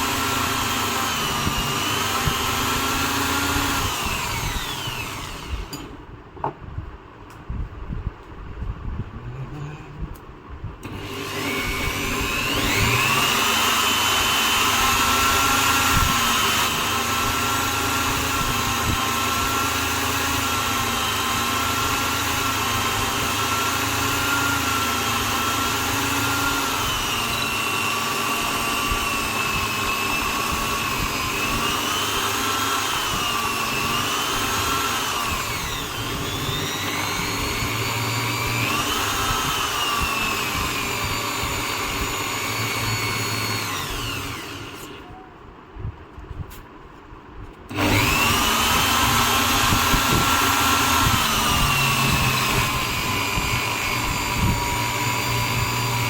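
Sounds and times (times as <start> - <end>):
electric drill motor whining: 0.0 - 6.0, 10.8 - 45.3, 47.7 - 56.0.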